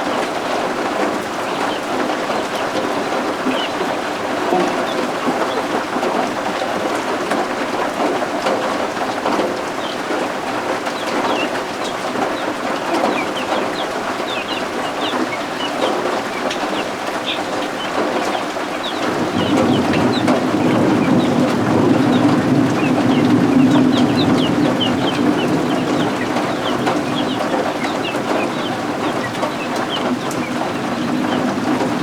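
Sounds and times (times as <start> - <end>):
chicks peeping: 0.0 - 32.0
steady rain: 0.0 - 32.0.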